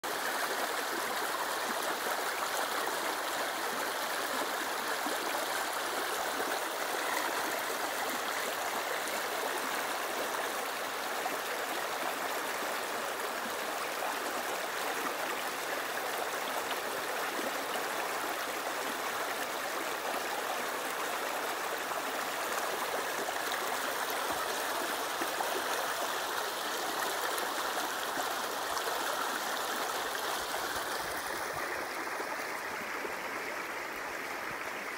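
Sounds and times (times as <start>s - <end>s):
river babbling over stones: 0.0s - 34.9s.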